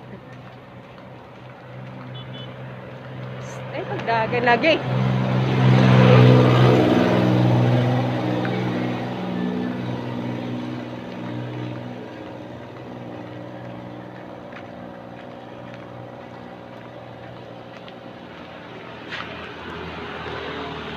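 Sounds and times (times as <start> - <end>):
vehicle engine running: 0.0 - 20.9.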